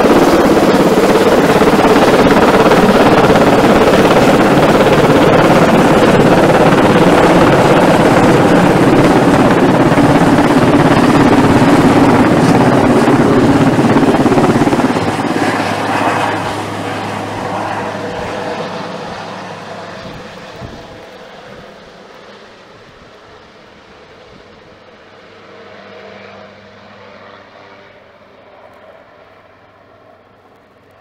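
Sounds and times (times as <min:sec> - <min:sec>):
helicopter flying overhead: 0:00.0 - 0:31.0.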